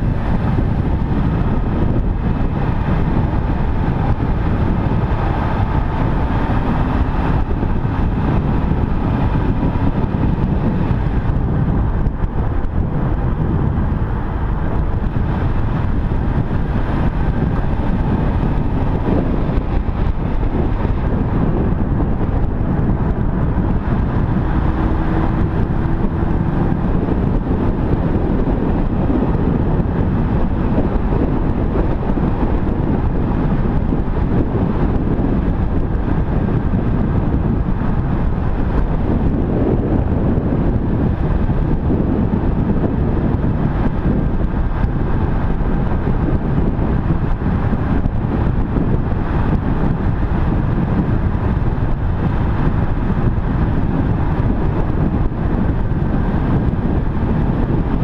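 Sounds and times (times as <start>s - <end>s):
car engine: 0.0s - 58.0s
wind rumble on microphone: 0.0s - 58.0s.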